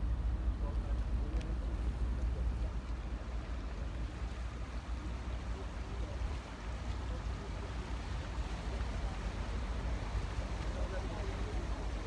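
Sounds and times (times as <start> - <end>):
faint distant voices: 0.0 - 12.0.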